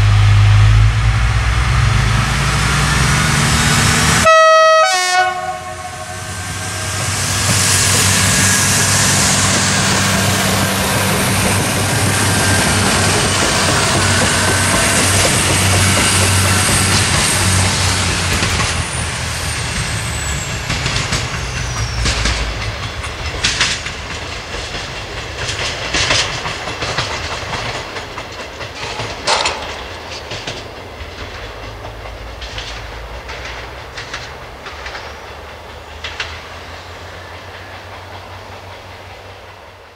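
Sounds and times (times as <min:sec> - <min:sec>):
diesel railcar passing: 0:00.0 - 0:39.9
train wheels clicking on rail joints: 0:05.2 - 0:39.9.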